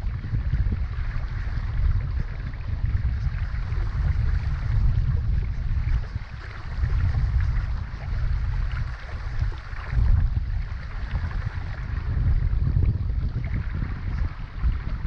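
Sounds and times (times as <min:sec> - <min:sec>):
creek running over stones: 0:00.0 - 0:15.0
wind buffeting microphone: 0:00.0 - 0:15.0.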